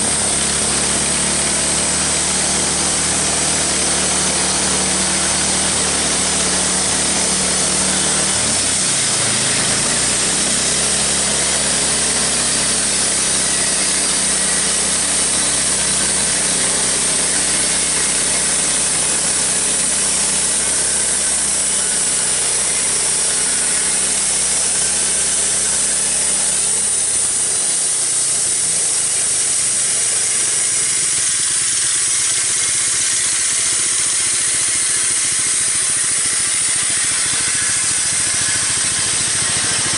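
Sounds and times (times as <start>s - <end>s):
saw blade hissing: 0.0s - 39.9s
sawmill motor hum: 0.0s - 39.9s.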